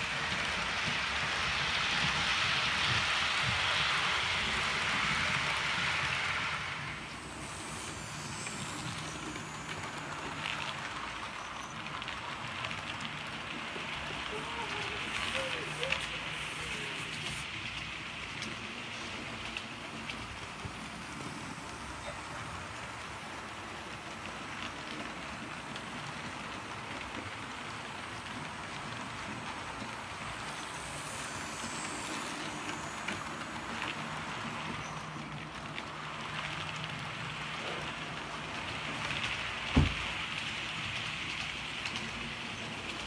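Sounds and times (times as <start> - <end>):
model train motor whirring: 0.0 - 43.0
wheels rattling on rails: 0.0 - 43.0.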